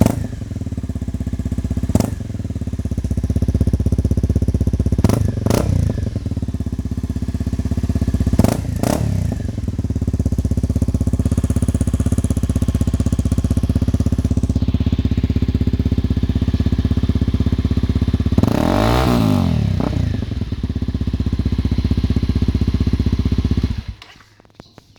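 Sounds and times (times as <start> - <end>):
motorcycle engine idling and revving: 0.0 - 24.2.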